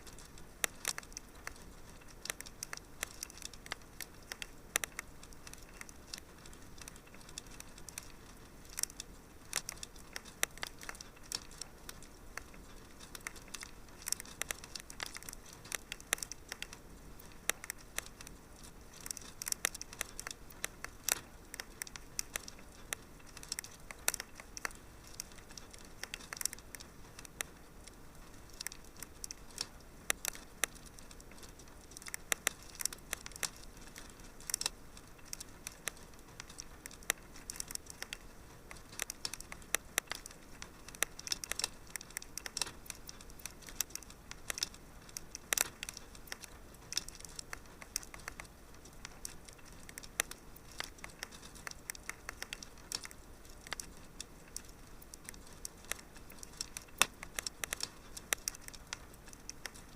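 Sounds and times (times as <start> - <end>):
soft steady hiss: 0.0 - 59.9
wood fire crackling and popping: 0.0 - 59.9.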